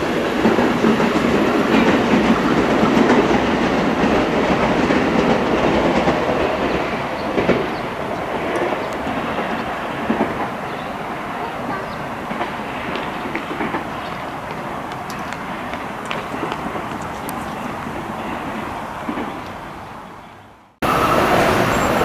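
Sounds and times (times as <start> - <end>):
train wheels on rails: 0.0 - 20.2, 20.8 - 22.0.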